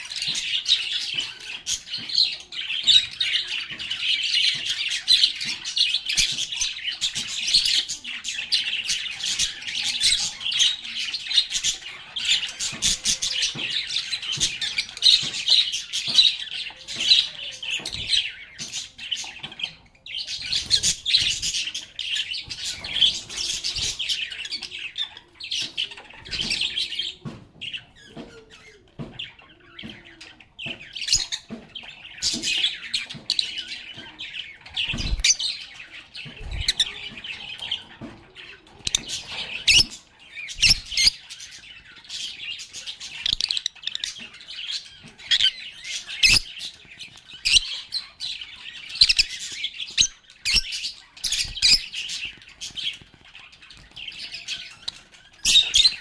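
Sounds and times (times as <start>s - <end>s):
lovebirds chirping and chattering: 0.0s - 56.0s.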